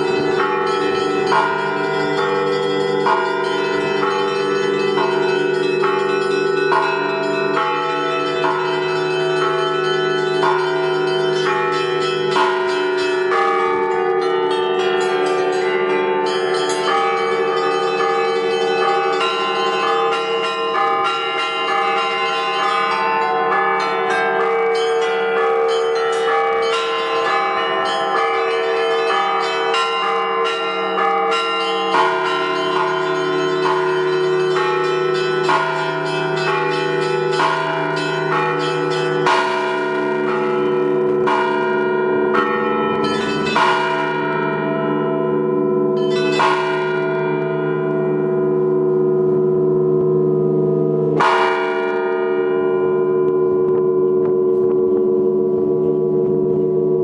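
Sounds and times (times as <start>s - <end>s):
fast strikes on small bells: 0.0s - 48.3s
heavy bell strokes: 0.0s - 57.0s
large bells ringing: 0.0s - 57.0s.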